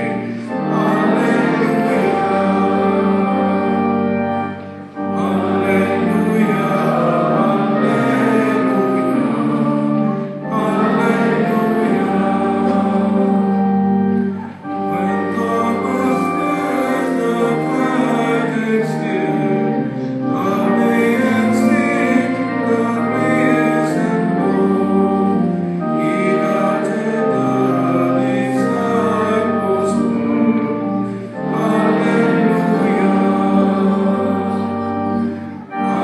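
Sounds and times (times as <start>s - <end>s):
organ accompaniment: 0.0s - 36.0s
voices singing a slow hymn: 0.0s - 36.0s.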